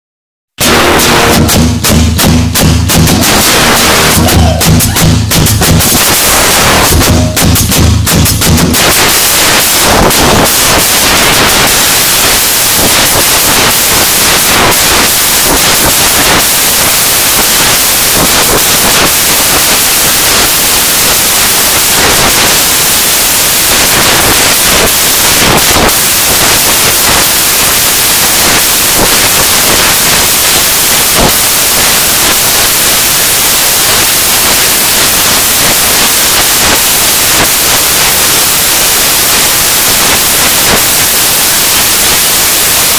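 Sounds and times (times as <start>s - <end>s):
static hiss: 0.6s - 42.9s.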